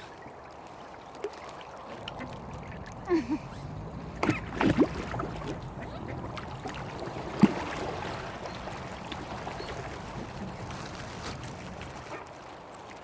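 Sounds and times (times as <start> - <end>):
lake water rushing: 0.0 - 13.0.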